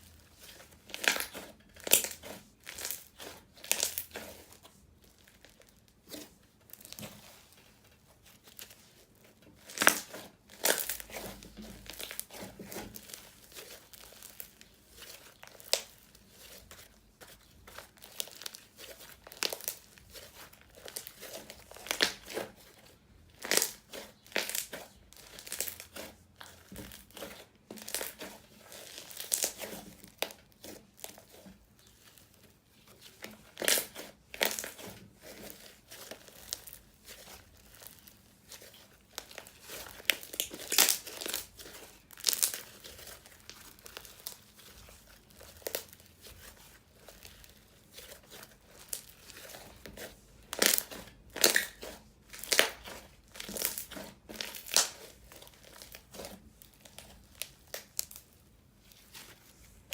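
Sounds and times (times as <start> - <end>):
crunchy slime crackling and popping: 0.0 - 59.9.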